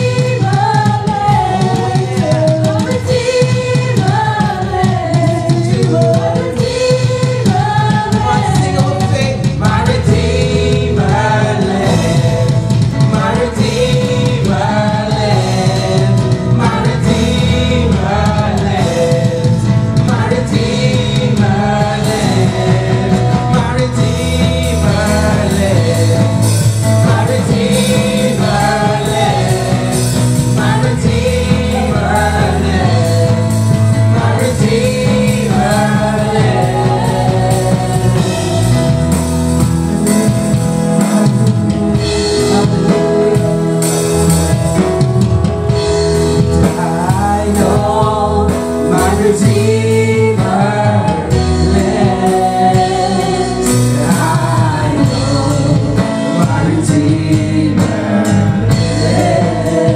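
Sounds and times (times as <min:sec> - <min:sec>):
band with drums and bass: 0:00.0 - 0:59.9
voices singing: 0:00.0 - 0:59.9.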